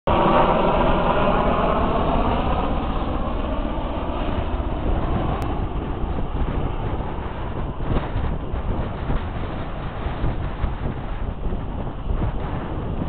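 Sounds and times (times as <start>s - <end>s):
droning hum of steady tones: 0.1s - 13.0s
wind buffeting microphone: 0.1s - 13.0s.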